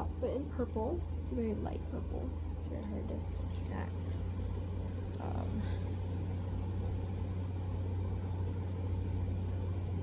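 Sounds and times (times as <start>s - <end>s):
air conditioner hum: 0.0s - 10.0s
fan rush: 0.0s - 10.0s.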